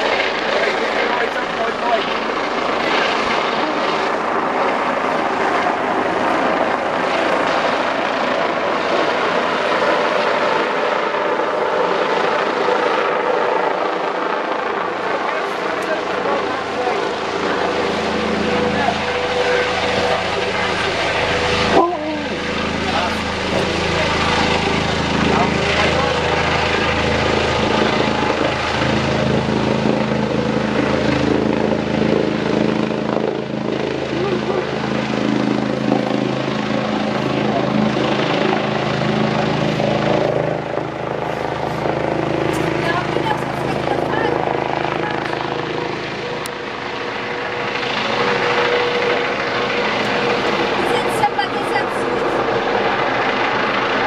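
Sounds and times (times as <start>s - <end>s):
helicopter rotor and turbine: 0.0s - 54.0s.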